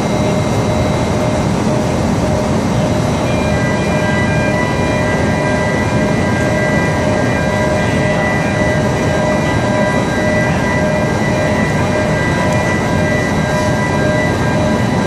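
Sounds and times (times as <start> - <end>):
faint whining tones: 0.0 - 15.0
furnace roaring: 0.0 - 15.0.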